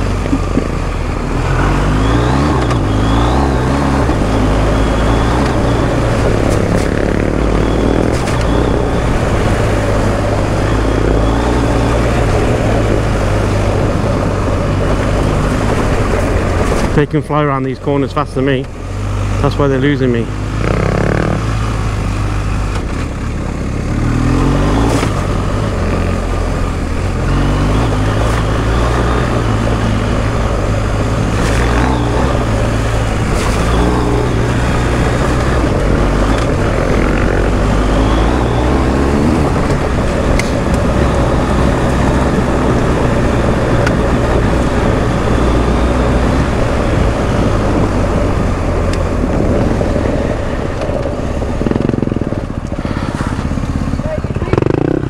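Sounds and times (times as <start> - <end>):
wind noise: 0.0 - 17.9, 23.9 - 55.0
motorcycle engine running: 0.0 - 55.0.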